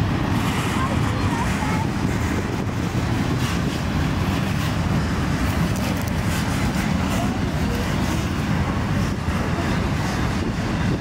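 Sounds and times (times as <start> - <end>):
steel wheels rumbling on rails: 0.0 - 11.0.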